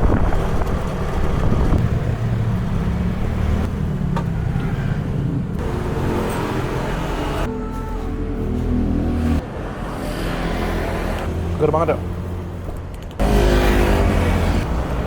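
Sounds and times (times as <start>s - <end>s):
low rumble of vehicle noise: 0.0s - 15.0s.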